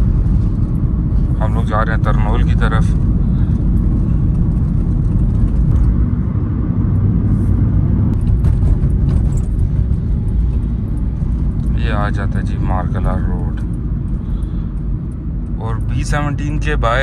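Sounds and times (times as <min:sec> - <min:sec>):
car driving interior rumble: 0:00.0 - 0:17.0.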